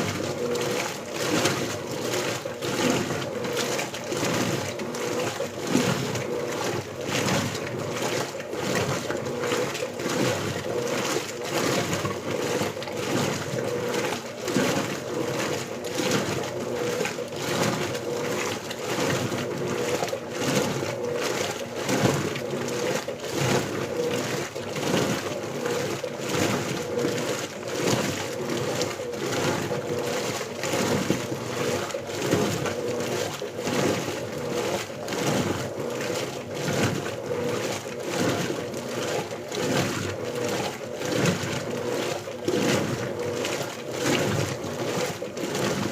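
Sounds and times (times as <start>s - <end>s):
washing machine hum: 0.0s - 45.9s
washing machine sloshing: 0.0s - 45.9s.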